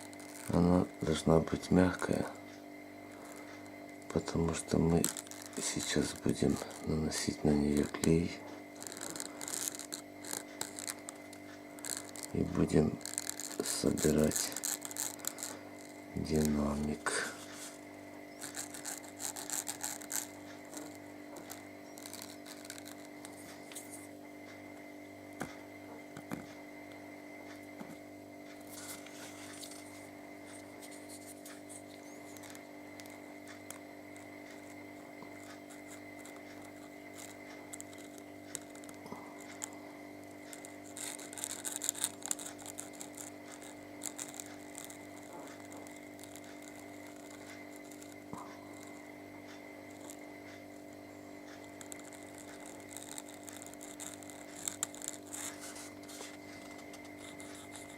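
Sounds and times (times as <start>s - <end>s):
steady multi-tone hum: 0.0s - 57.9s
hand work clicks and scrapes: 3.4s - 17.8s, 18.4s - 24.1s, 28.7s - 39.8s, 40.5s - 50.6s, 51.5s - 57.9s.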